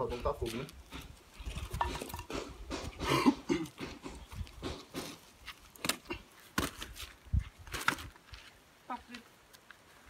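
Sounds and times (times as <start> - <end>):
firewood sticks clattering: 0.2 - 8.3.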